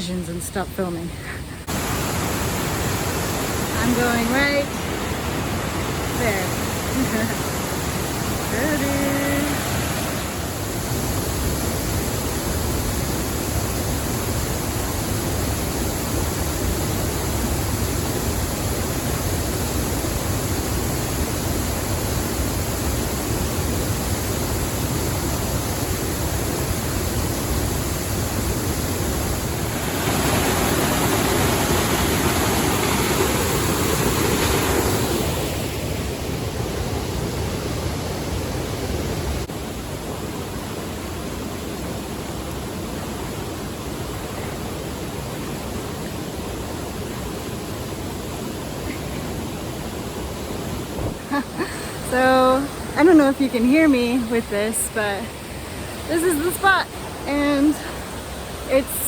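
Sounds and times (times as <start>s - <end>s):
waterfall rushing: 1.4s - 59.0s.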